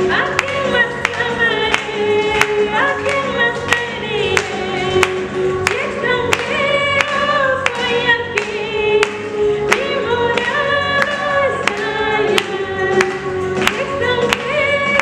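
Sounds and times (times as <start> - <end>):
women singing gospel song: 0.0 - 15.0
clap-like beat: 0.2 - 15.0.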